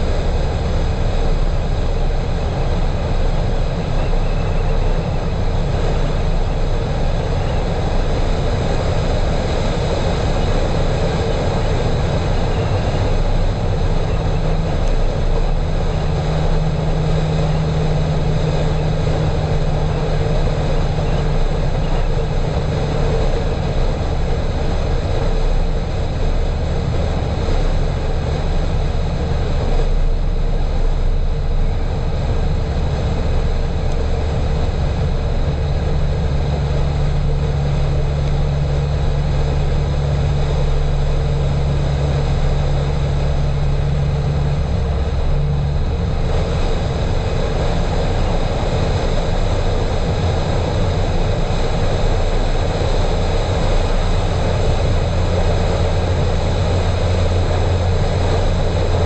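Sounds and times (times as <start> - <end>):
car engine drone: 0.0 - 59.0
steady humming tone: 0.0 - 59.0
tyre and road noise: 0.0 - 59.0.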